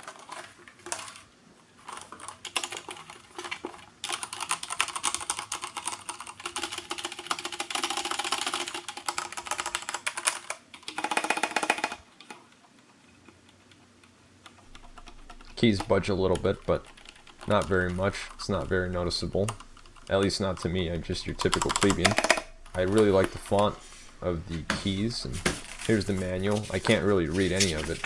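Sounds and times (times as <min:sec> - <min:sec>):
mechanical keyboard typing: 0:00.0 - 0:01.2, 0:01.8 - 0:23.8.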